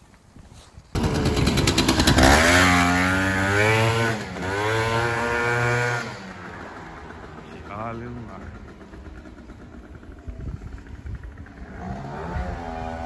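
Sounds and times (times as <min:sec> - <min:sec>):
scooter engine accelerating: 0:01.0 - 0:13.0.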